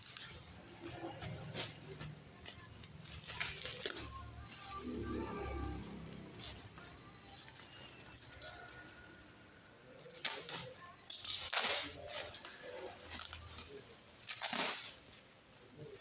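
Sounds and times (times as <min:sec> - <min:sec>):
packaging rustling and scraping: 0:00.0 - 0:16.0.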